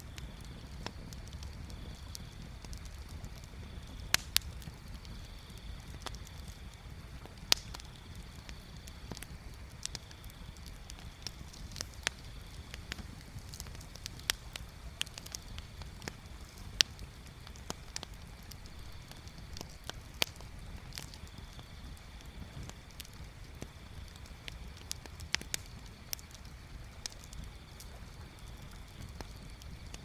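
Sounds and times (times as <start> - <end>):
bonfire crackling and popping: 0.0 - 30.0.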